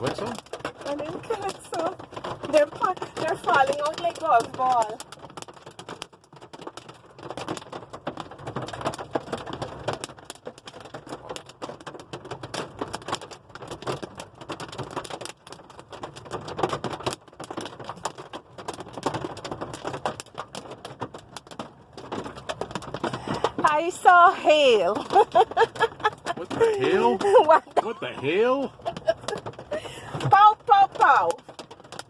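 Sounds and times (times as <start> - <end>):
hailstones clattering: 0.0 - 32.0.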